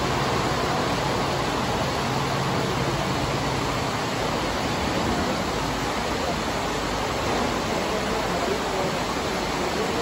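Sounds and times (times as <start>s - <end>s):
heavy rain on metal roof: 0.0s - 10.0s.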